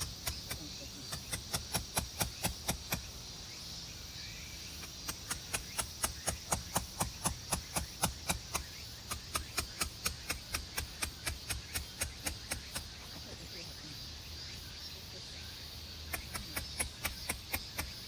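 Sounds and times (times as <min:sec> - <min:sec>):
high buzz of insects: 0:00.0 - 0:18.0.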